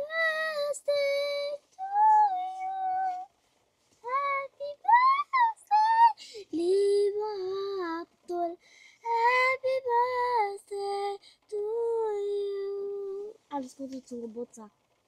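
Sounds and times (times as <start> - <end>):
child singing: 0.0 - 3.3, 4.0 - 14.4.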